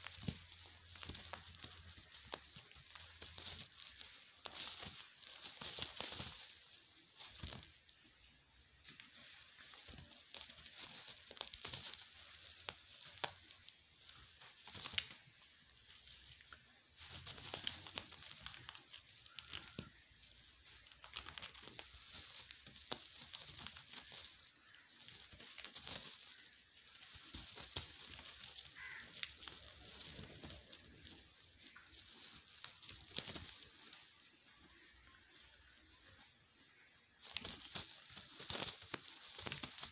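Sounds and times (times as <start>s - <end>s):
plastic tarp crinkling and rustling: 0.0s - 7.9s, 8.8s - 39.9s.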